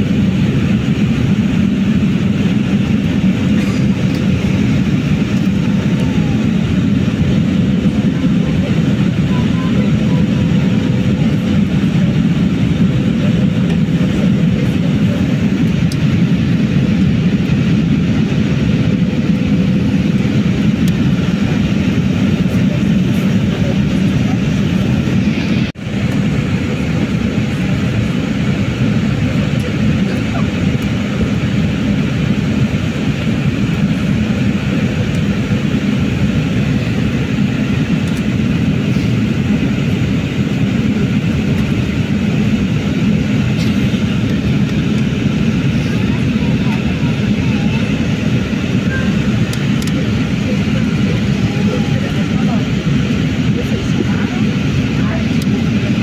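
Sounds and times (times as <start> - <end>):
airflow and jet engine rumble: 0.0 - 56.0.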